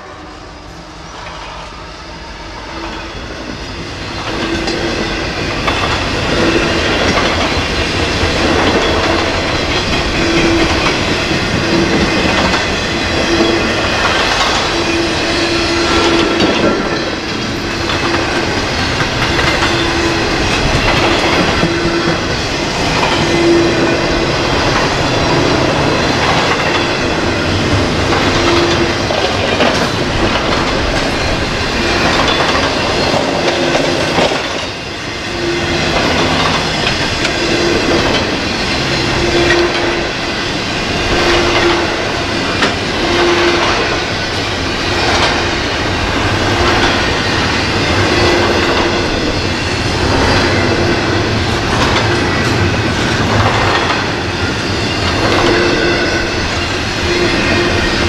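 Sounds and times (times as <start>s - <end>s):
freight train wheels clattering: 0.7s - 58.0s.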